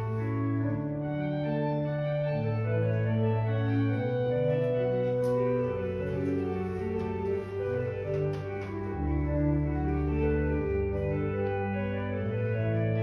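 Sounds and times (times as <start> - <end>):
organ music: 0.0 - 13.0.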